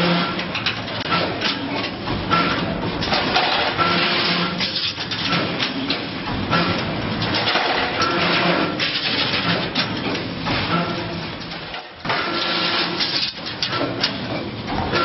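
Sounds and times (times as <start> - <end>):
bending machine running: 0.0 - 15.0.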